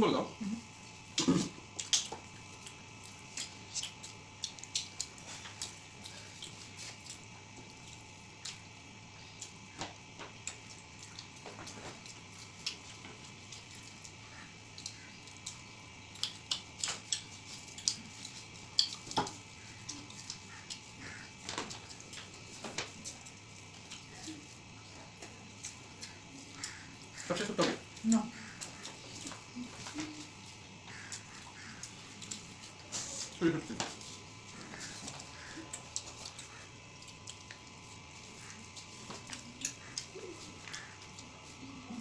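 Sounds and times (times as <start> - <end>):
chewing: 0.6 - 42.0
fingers mixing wet rice: 0.7 - 42.0.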